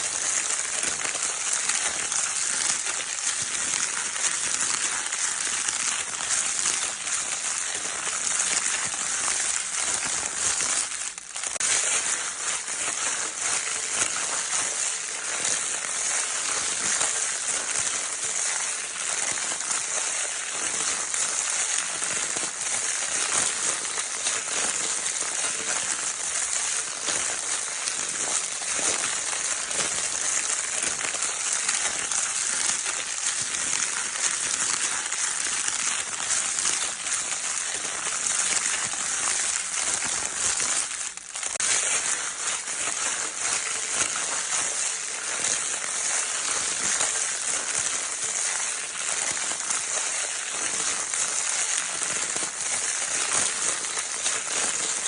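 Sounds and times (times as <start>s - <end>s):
crinkle paper toy crackling: 0.0s - 55.0s.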